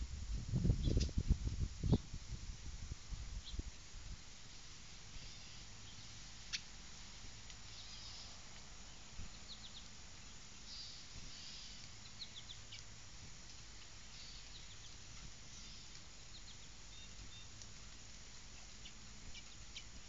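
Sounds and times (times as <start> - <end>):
low steady background rumble: 0.0 - 20.0
small songbirds chirping: 0.6 - 2.2, 3.4 - 3.8, 4.5 - 20.0.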